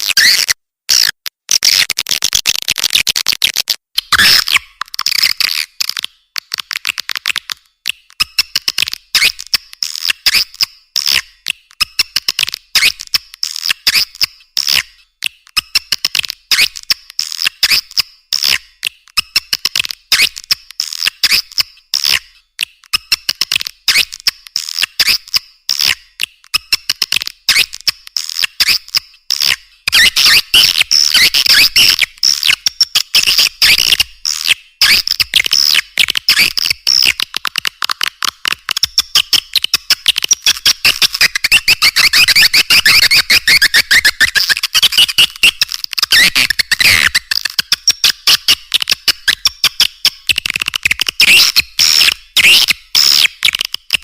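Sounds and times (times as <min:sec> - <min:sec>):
recorded swiftlet chirps and clicks: 0:00.1 - 0:54.0.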